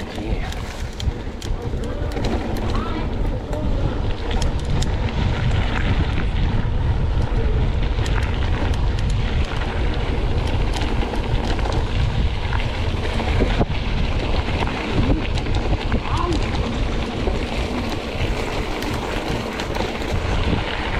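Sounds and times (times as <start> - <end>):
tyres rattling over gravel: 0.0 - 6.3, 7.4 - 20.9
wind rushing over microphone: 0.0 - 20.9.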